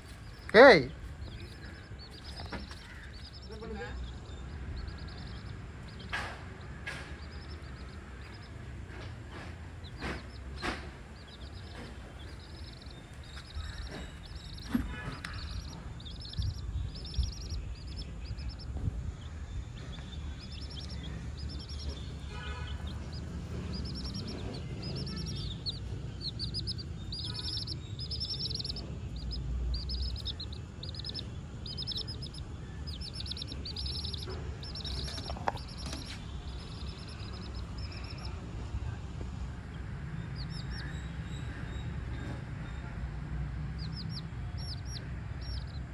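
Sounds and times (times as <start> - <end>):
chicks peeping: 0.0 - 42.6, 43.7 - 45.9
steady low rumble: 0.0 - 45.9.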